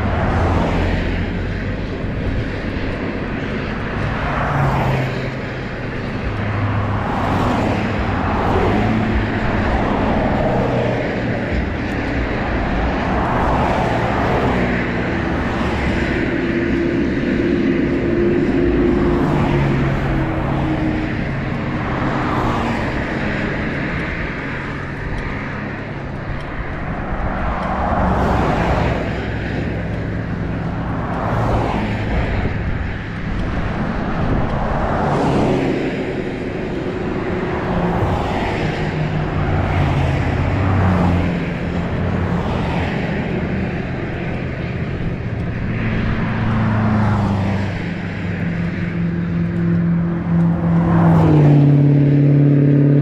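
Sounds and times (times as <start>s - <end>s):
cars passing at speed: 0.0s - 53.0s
traffic rumble: 0.0s - 53.0s.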